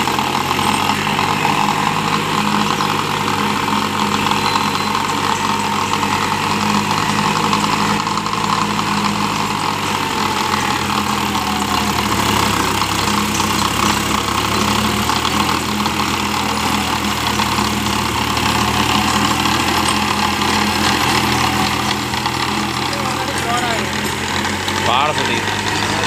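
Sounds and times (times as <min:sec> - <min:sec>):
rotavator churning soil: 0:00.0 - 0:26.0
tractor diesel engine under load: 0:00.0 - 0:26.0.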